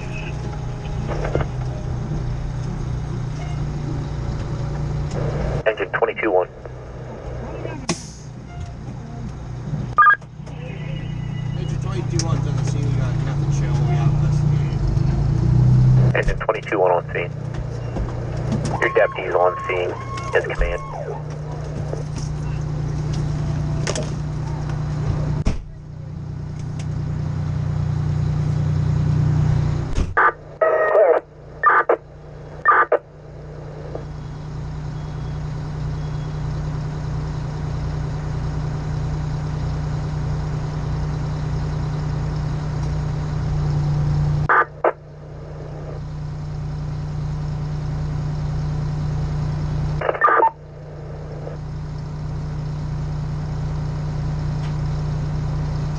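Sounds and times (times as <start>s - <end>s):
diesel engine humming: 0.0s - 55.9s.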